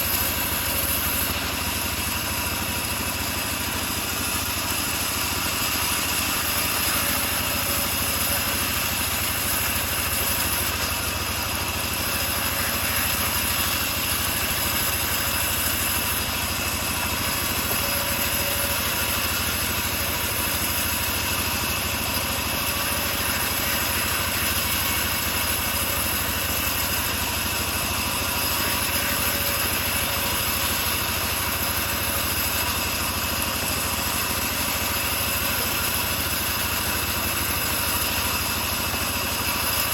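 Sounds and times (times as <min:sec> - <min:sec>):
bandsaw mill engine drone: 0:00.0 - 0:39.9.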